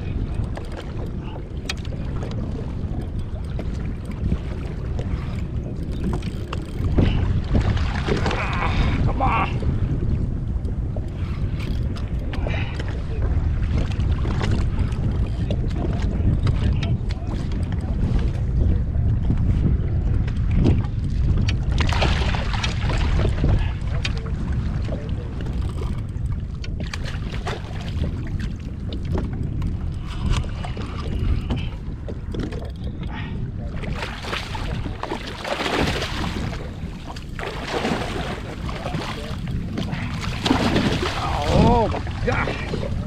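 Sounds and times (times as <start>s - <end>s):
water splashing against hull: 0.0s - 43.0s
wind buffeting microphone: 0.0s - 43.0s.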